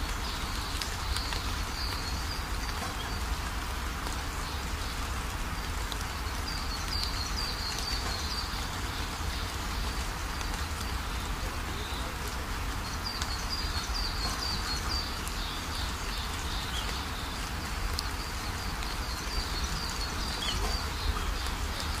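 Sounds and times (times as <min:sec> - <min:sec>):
small birds chirping: 0:00.0 - 0:22.0
wind: 0:00.0 - 0:22.0.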